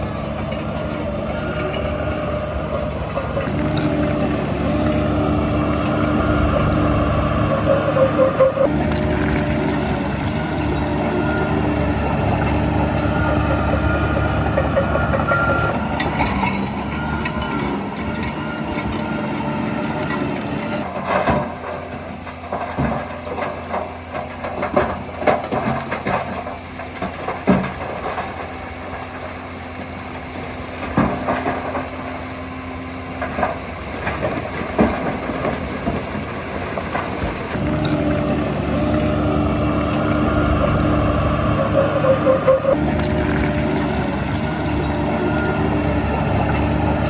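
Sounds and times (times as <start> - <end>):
diesel earthmoving machine running: 0.0 - 47.0.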